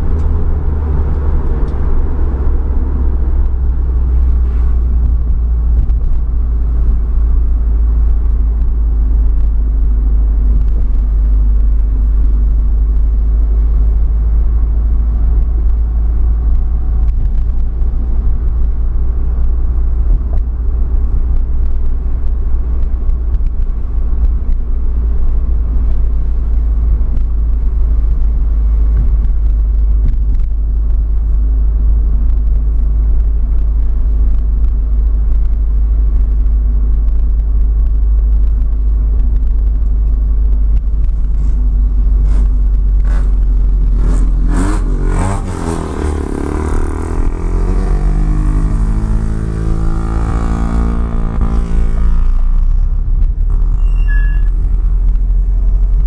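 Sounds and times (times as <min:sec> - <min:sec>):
car engine running at low revs: 0:00.0 - 0:56.0
road noise: 0:00.0 - 0:56.0.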